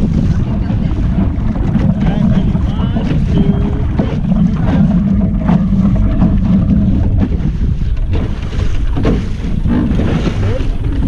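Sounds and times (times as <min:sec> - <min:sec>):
short knocks or splashes: 0:00.0 - 0:11.0
water noise: 0:00.0 - 0:11.0
wind rumbling on microphone: 0:00.0 - 0:11.0.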